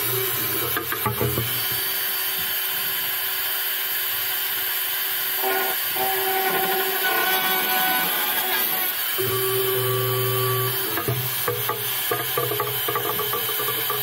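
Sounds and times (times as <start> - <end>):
rotary tool drill whining: 0.0 - 14.0.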